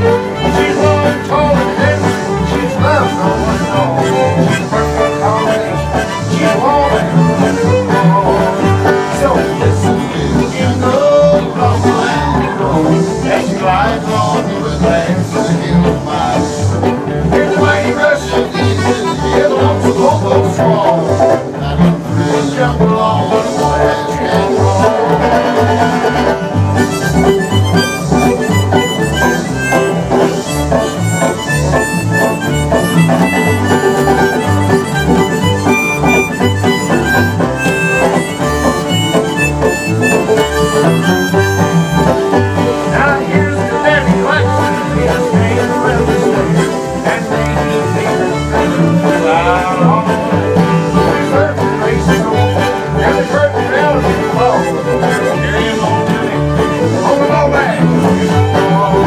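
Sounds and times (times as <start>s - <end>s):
acoustic guitar: 0.0s - 59.0s
banjo: 0.0s - 59.0s
fiddle: 0.0s - 59.0s
harmonica melody: 0.0s - 59.0s
plucked upright bass: 0.0s - 59.0s.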